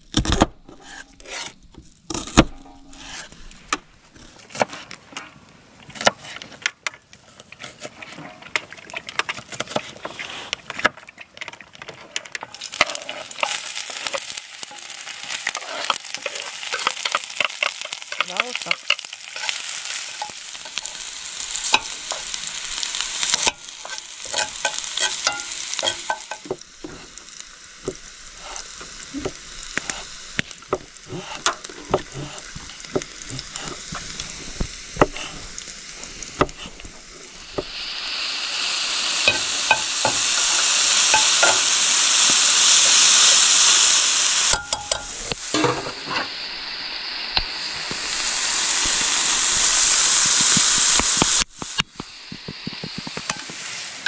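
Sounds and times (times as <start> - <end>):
onion sizzling in a pan: 0.0 - 54.0
mushrooms sizzling in a pan: 7.2 - 54.0.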